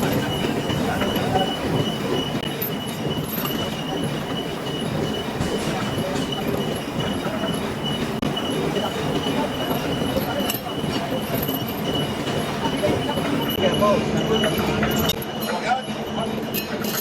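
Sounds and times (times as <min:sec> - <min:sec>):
lathe running: 0:00.0 - 0:15.3.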